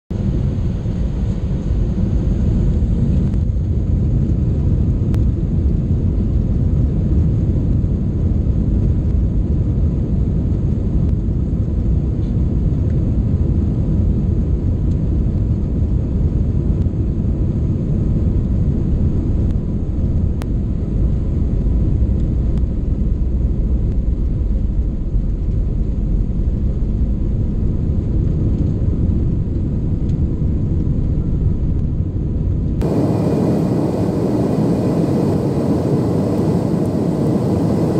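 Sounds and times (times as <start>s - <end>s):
airliner cabin engine rumble: 0.1s - 37.9s.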